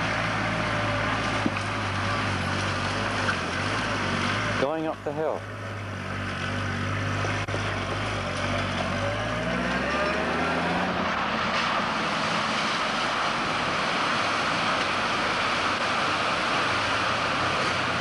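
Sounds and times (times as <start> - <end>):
engine running under load: 0.0 - 18.0
water rushing: 0.0 - 18.0.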